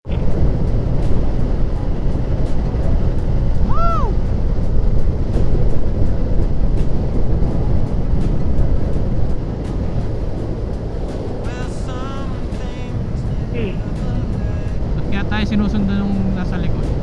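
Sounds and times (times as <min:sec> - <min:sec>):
wind and motorcycle road rumble: 0:00.0 - 0:17.0.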